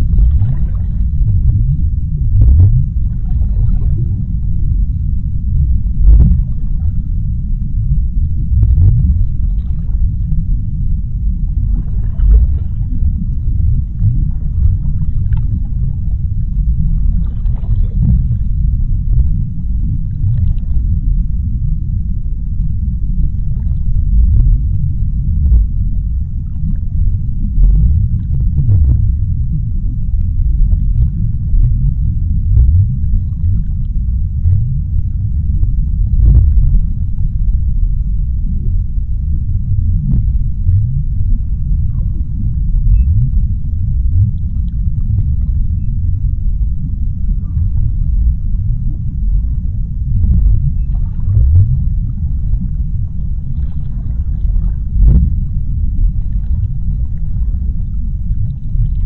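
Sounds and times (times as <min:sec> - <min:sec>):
low underwater rumble: 0:00.0 - 0:59.0.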